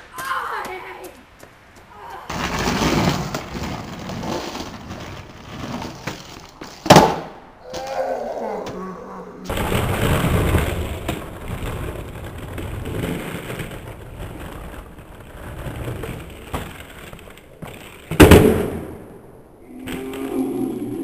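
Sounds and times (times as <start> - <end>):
skateboard wheels rolling on asphalt: 0.0 - 21.0
skateboard clacking on pavement: 0.1 - 7.8, 9.5 - 19.0.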